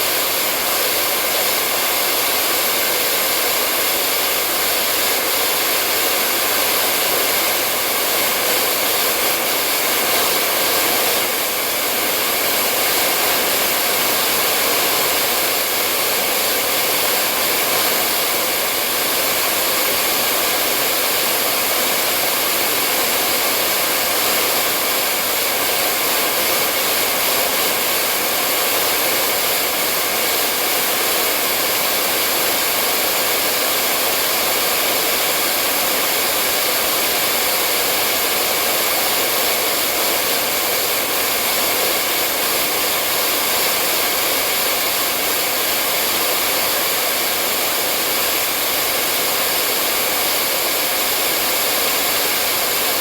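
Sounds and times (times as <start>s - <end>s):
hair dryer blowing: 0.0s - 53.0s.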